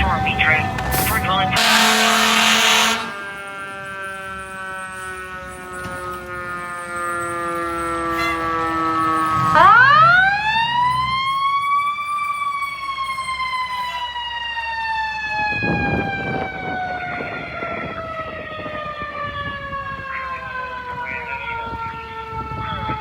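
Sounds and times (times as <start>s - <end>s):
mechanical fire engine siren: 0.0s - 23.0s.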